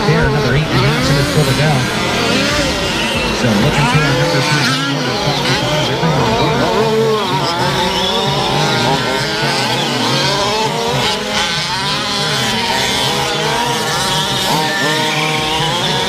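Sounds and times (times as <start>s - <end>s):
small two-stroke engines buzzing: 0.0s - 16.0s.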